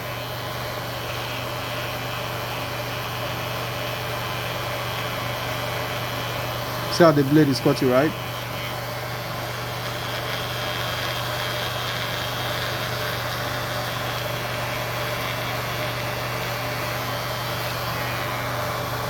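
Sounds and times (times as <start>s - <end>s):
electric hair clipper humming: 0.0s - 19.0s.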